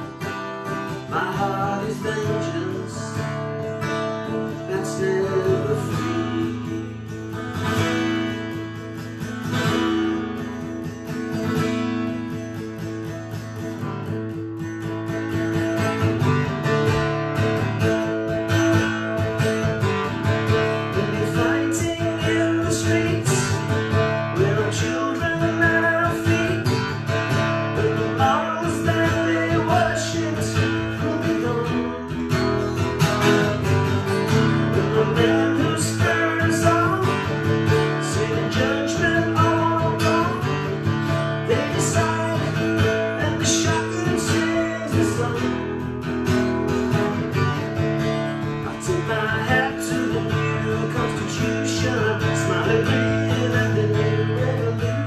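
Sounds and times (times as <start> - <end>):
acoustic guitar strummed chords: 0.0 - 55.0.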